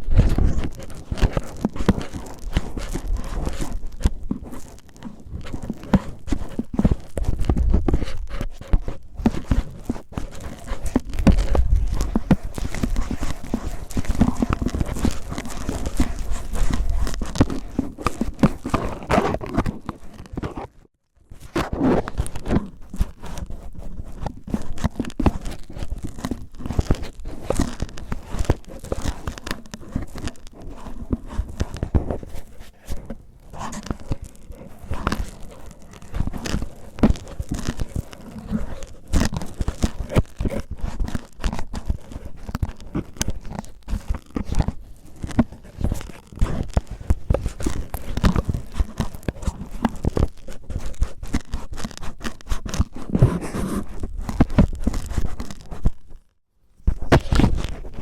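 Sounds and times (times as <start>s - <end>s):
cellophane crinkling: 0.0s - 20.8s, 21.4s - 56.3s.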